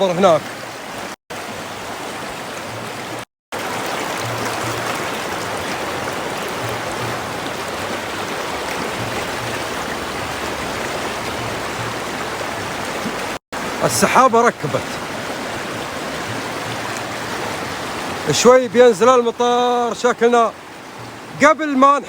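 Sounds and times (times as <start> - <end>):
river water rushing over stones: 0.0 - 22.0.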